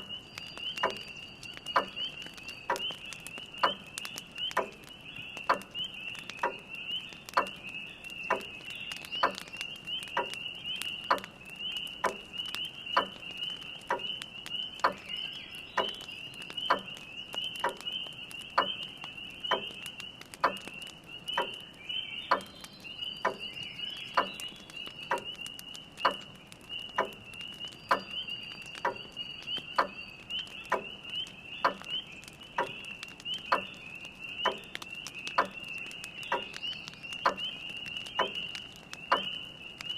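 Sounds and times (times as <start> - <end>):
fire crackling: 0.0 - 39.9
spring peepers chorus: 0.0 - 39.9.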